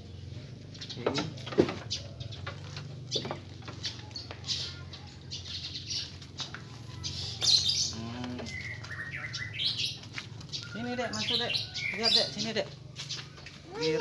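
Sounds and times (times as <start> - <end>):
bird chirping: 0.0 - 14.0
animals chewing: 0.3 - 14.0.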